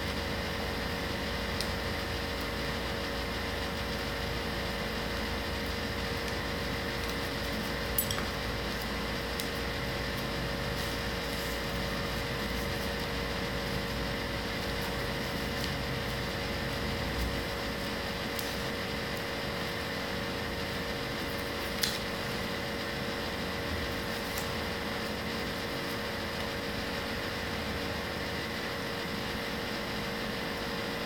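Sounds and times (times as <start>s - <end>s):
mechanical hum: 0.0s - 31.0s.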